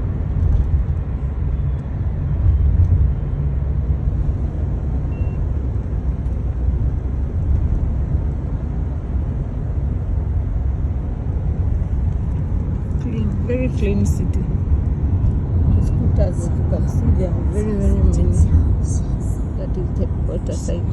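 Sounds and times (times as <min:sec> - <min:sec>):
road noise: 0:00.0 - 0:20.9
traffic rumble: 0:00.0 - 0:20.9.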